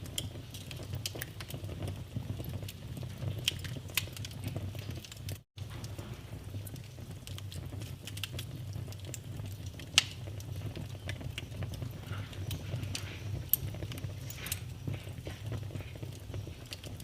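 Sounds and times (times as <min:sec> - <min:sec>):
fire crackling: 0:00.0 - 0:17.0
fire popping: 0:00.0 - 0:17.0
fire rumbling: 0:00.0 - 0:17.0.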